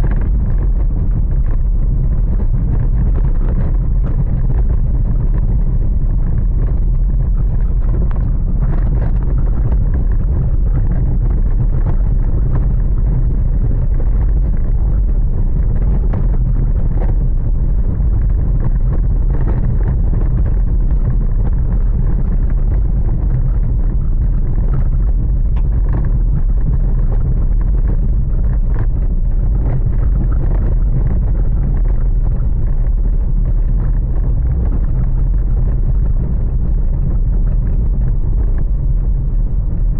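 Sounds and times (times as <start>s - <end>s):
faint patters: 0.0s - 39.9s
storm wind buffeting microphone: 0.0s - 39.9s.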